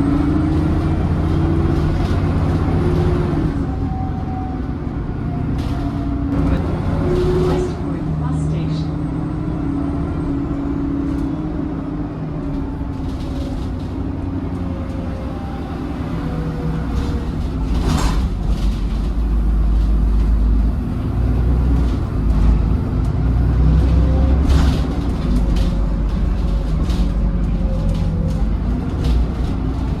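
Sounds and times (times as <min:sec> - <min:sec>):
bus engine rumble with whine: 0:00.0 - 0:30.0.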